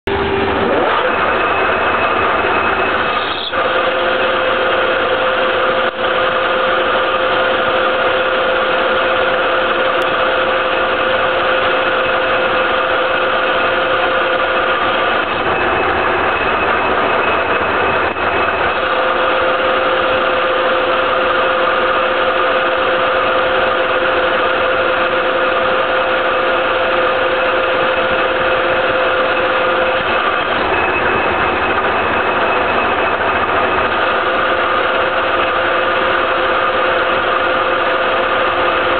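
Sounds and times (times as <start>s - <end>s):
lathe whining while cutting steel: 0.1s - 38.9s.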